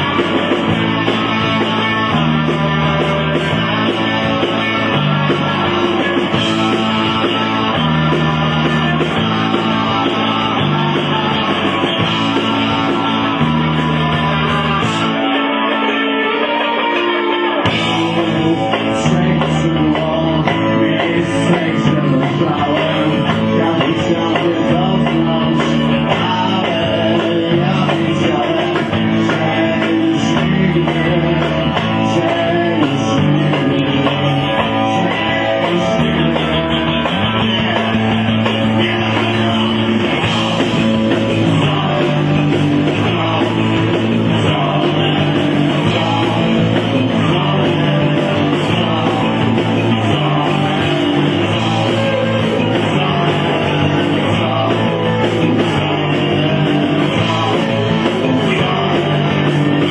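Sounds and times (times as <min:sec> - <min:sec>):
electric guitar: 0:00.0 - 0:59.9
muffled rock band playing live: 0:00.0 - 0:59.9
person singing: 0:00.0 - 0:59.9.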